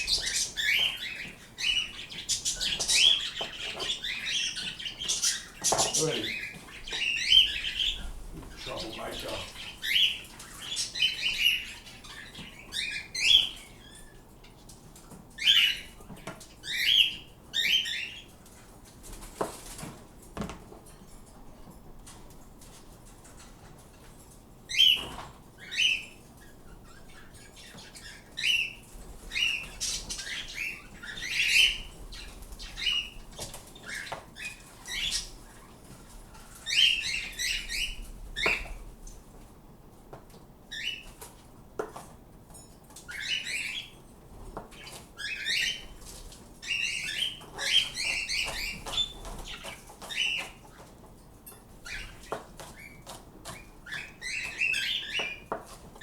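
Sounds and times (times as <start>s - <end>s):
birds chirping and squawking: 0.0s - 14.7s, 15.3s - 18.6s, 24.7s - 39.3s, 40.7s - 41.3s, 42.9s - 44.0s, 44.7s - 56.0s.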